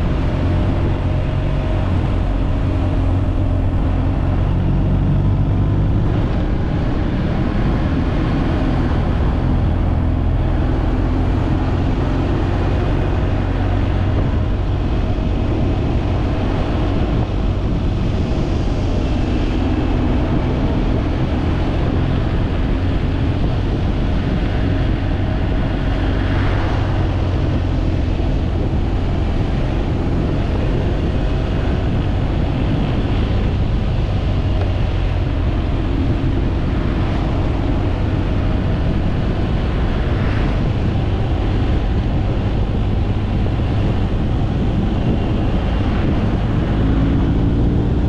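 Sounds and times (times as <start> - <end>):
wind rush on microphone: 0.0 - 48.0.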